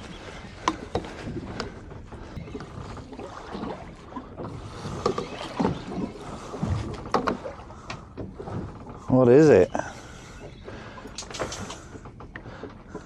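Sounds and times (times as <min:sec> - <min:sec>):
water around boat hull: 0:00.0 - 0:13.0
wind: 0:00.0 - 0:13.0.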